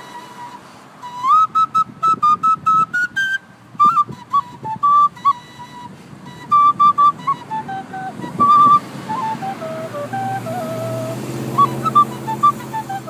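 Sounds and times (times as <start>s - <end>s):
wooden flute folk melody: 0.0s - 13.0s.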